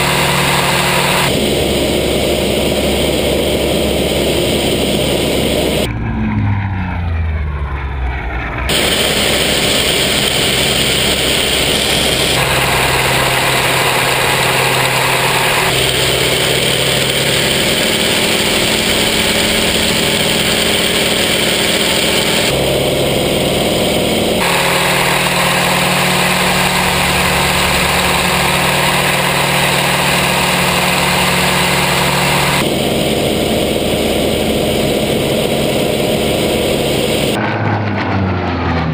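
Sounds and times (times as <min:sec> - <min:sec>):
radial piston engine running hard: 0:00.0 - 0:05.9, 0:08.7 - 0:37.4.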